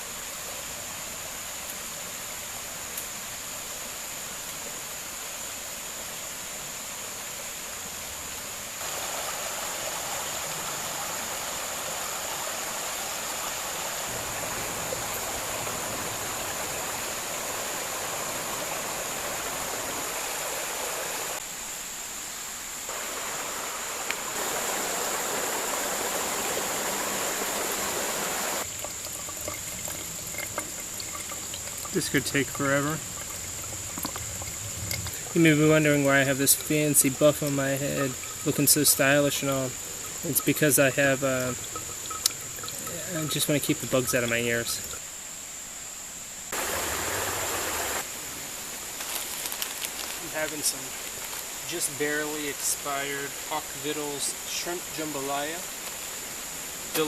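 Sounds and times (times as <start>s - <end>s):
creek rushing over rocks: 8.3s - 21.6s, 22.9s - 45.0s, 46.5s - 57.0s.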